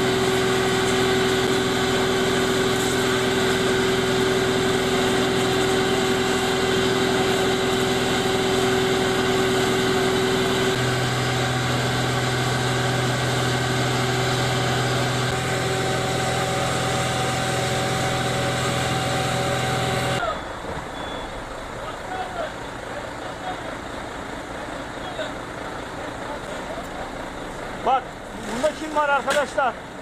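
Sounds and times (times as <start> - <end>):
fire engine motor humming: 0.0 - 30.0.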